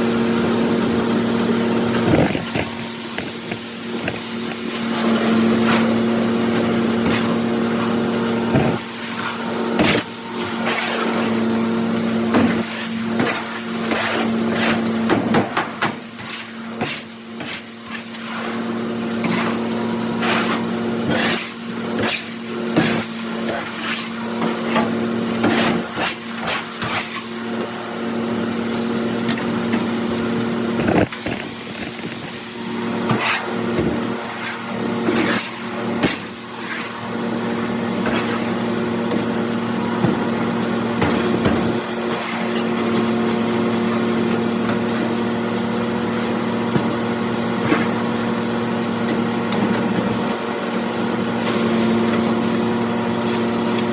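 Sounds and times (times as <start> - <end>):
hammermill grinding corn: 0.0 - 53.9.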